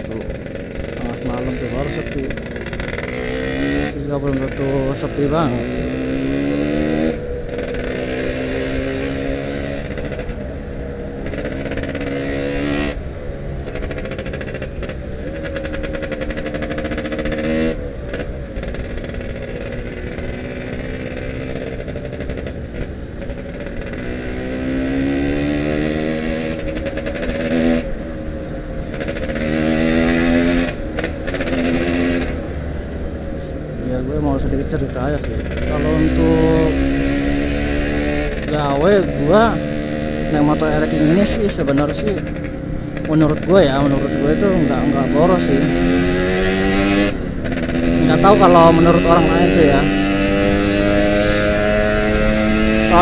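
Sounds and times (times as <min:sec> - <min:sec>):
two-stroke motorcycle engine accelerating: 0:00.0 - 0:53.0.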